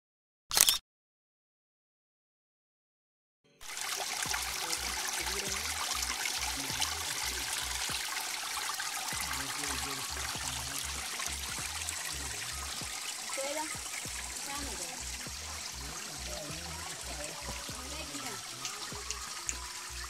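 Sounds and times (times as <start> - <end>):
stream trickling over rocks: 3.6 - 20.0.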